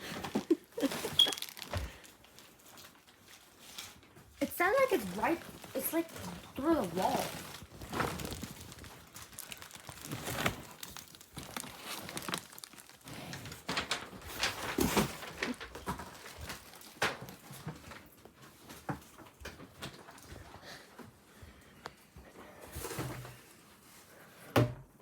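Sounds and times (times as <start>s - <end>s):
rustling and shuffling: 0.0s - 24.5s.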